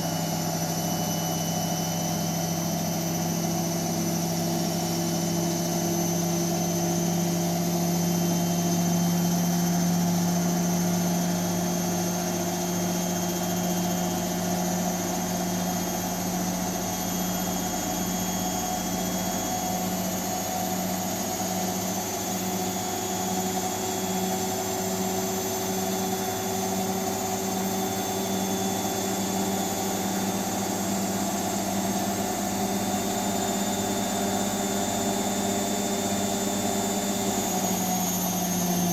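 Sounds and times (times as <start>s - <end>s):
washing machine motor hum: 0.0s - 38.9s.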